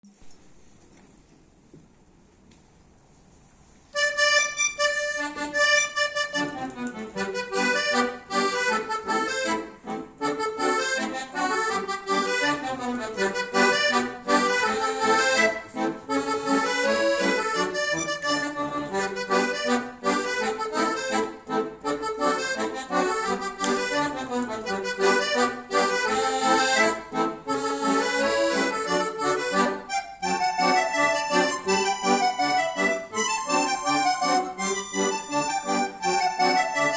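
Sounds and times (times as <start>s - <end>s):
accordion duet: 3.9s - 36.9s.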